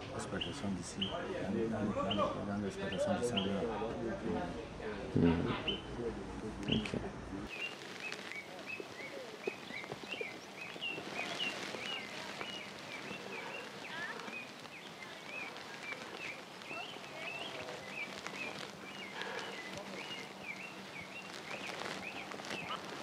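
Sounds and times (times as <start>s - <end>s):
birds chirping: 0.0s - 23.0s
steady background hiss: 0.0s - 23.0s.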